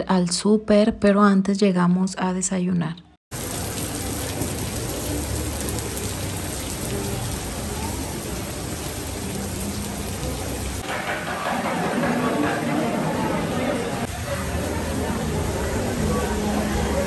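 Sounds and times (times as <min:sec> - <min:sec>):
people talking: 0:00.0 - 0:03.2, 0:03.9 - 0:17.0
heavy rain on a flooded street: 0:03.3 - 0:17.0.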